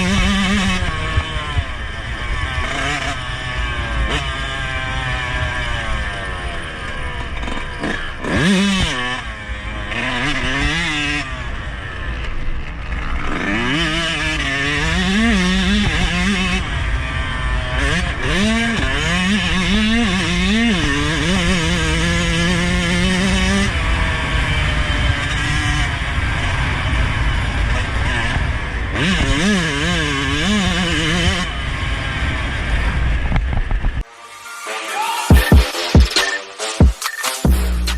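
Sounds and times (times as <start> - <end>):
two-stroke motorcycle engine revving: 0.0 - 34.1.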